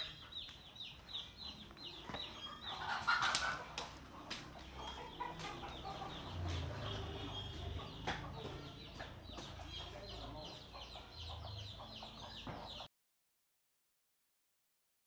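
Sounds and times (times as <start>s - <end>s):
chickens clucking: 0.0s - 12.9s.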